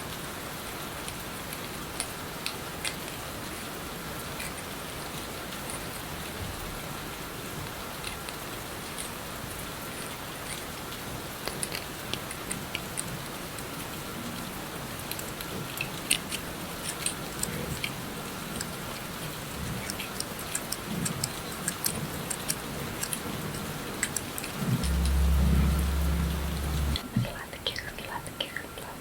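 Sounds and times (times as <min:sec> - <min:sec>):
steady rain: 0:00.0 - 0:27.4.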